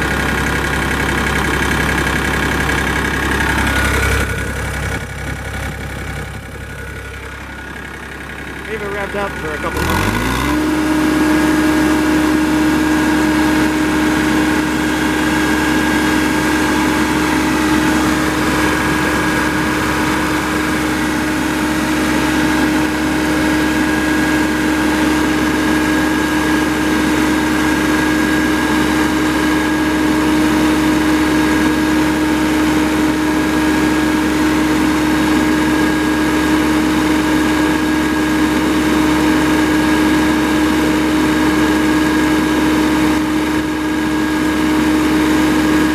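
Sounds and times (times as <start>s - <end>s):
diesel mower engine running: 0.0s - 45.9s.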